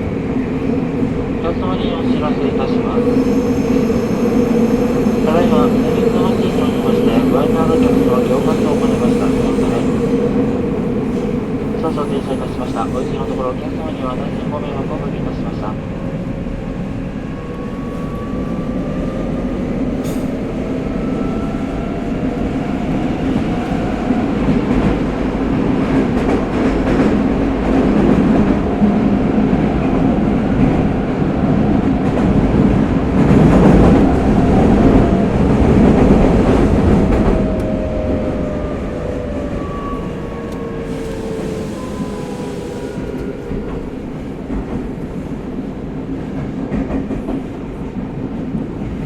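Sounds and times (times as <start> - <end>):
subway inverter whine: 0.0 - 49.0.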